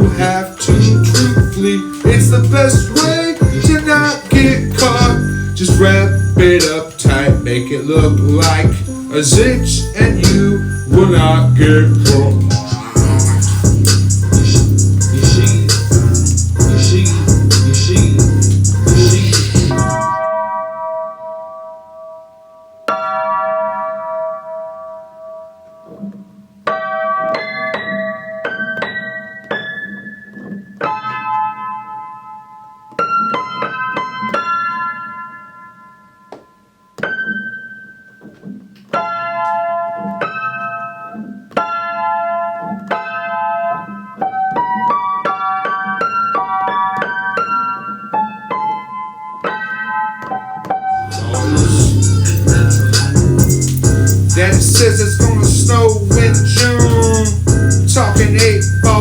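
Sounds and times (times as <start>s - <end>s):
piano-like keyboard chords: 0.0s - 59.0s.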